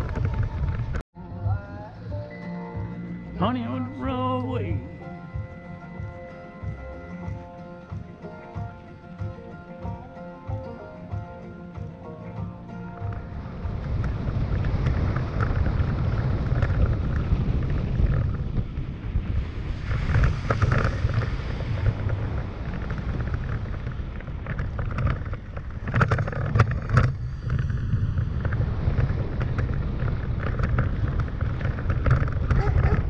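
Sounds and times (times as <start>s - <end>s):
wind on microphone: 0.0s - 2.2s, 4.6s - 33.0s
vehicle engine and tyre rumble: 0.0s - 3.5s, 4.7s - 33.0s.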